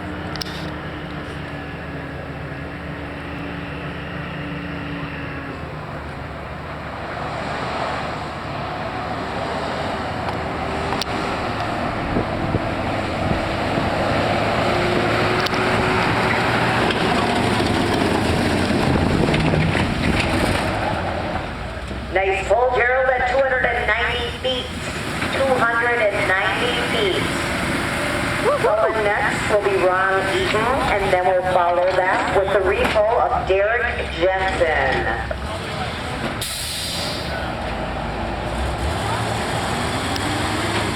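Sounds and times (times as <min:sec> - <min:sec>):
broad rushing noise: 0:00.0 - 0:22.8, 0:23.4 - 0:40.9
pickup truck engine under load: 0:00.0 - 0:40.9.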